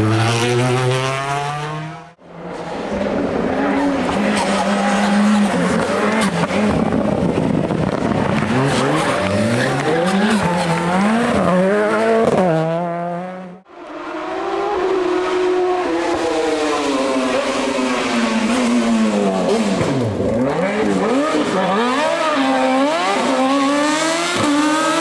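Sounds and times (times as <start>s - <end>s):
race car engines at full throttle: 0.0s - 25.0s.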